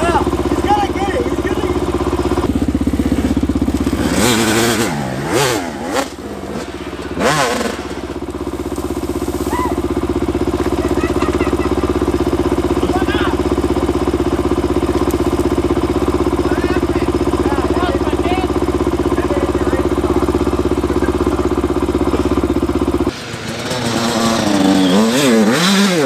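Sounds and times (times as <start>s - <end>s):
engine idling: 0.0s - 25.6s
dirt bike engine revving: 0.0s - 26.0s.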